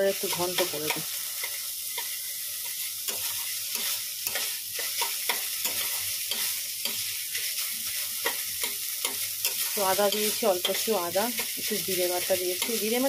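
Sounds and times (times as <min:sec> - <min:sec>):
frying sizzle: 0:00.0 - 0:13.0
metal spatula scraping a pan: 0:00.2 - 0:13.0.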